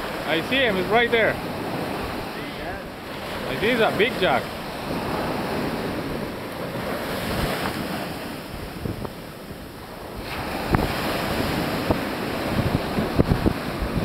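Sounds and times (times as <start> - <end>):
ocean surf on a beach: 0.0 - 14.0
wind buffeting microphone: 0.0 - 14.0.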